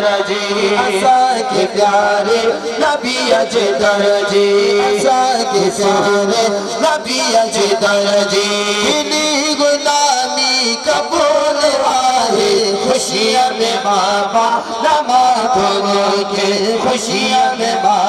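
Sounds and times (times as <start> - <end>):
men singing devotional song: 0.0 - 18.0.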